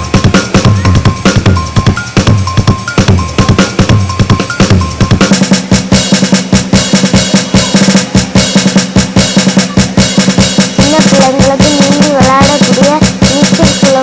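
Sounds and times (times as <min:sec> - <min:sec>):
drum-led music with fast beat: 0:00.0 - 0:14.0.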